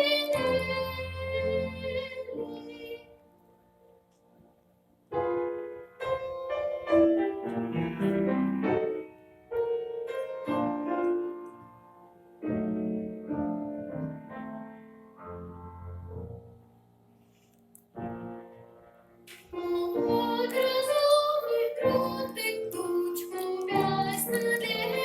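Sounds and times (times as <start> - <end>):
piano playing: 0.0 - 4.1, 5.0 - 17.2, 17.9 - 25.0.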